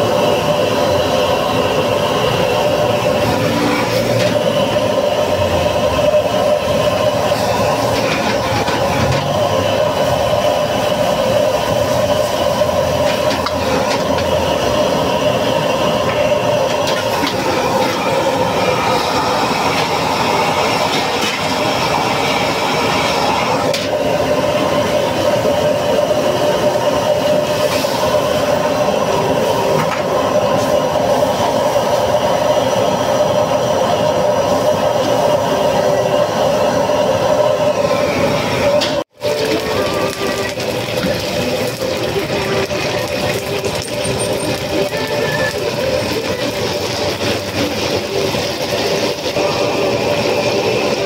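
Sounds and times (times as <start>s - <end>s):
food sizzling in a wok: 0.0s - 51.0s
gas burner roaring: 0.0s - 51.0s.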